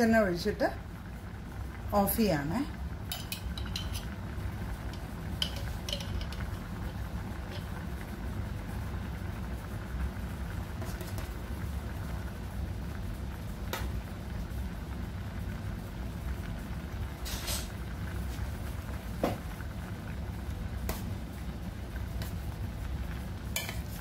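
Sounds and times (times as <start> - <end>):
curry bubbling in a pot: 0.0 - 24.0.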